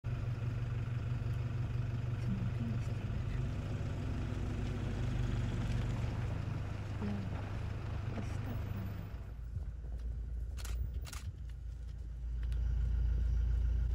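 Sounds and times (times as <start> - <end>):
vehicle engine idling: 0.0 - 13.9.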